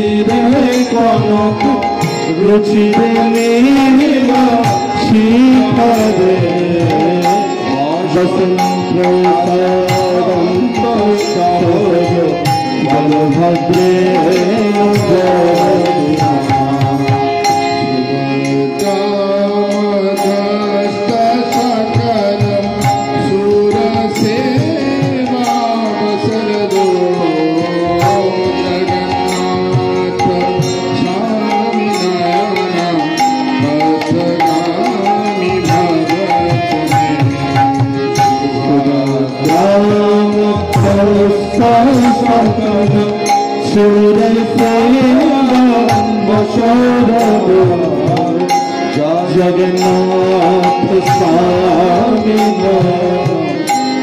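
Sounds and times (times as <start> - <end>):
harmonium chords: 0.0 - 54.0.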